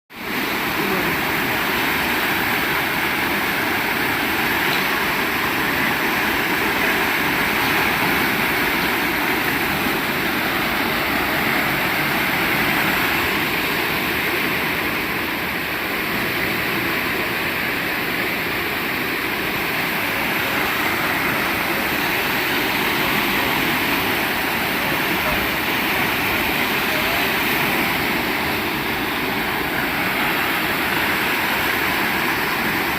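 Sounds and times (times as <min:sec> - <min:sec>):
floodwater rushing: 0:00.1 - 0:32.9.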